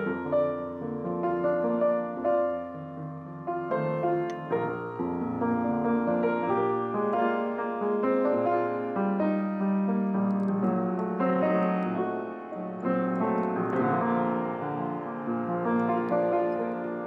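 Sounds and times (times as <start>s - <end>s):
grand piano playing: 0.0s - 17.0s.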